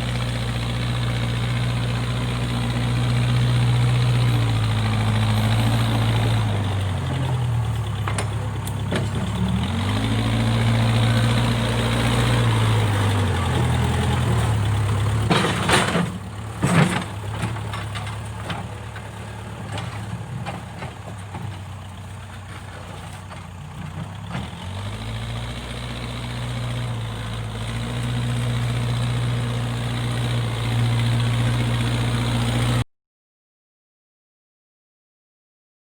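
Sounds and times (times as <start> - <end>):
diesel engine running: 0.0 - 32.8.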